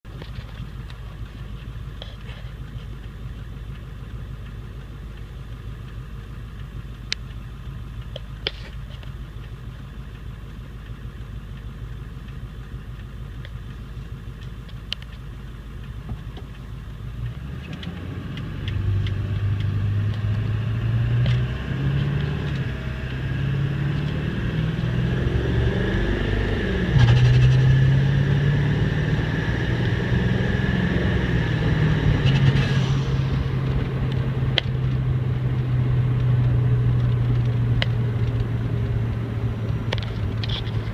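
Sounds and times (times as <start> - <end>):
diesel engine running: 0.1 - 40.9.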